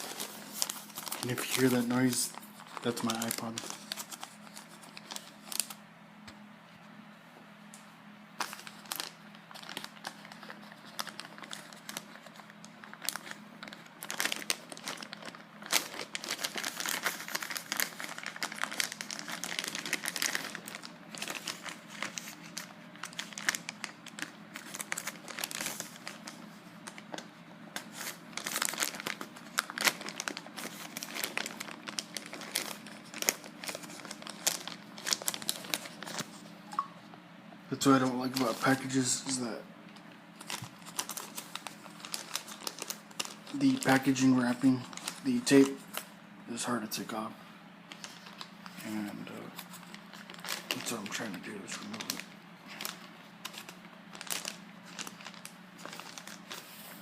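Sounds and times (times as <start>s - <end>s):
plastic wrapping crinkling: 0.0s - 5.8s, 8.4s - 36.9s, 37.8s - 46.1s, 47.9s - 57.0s.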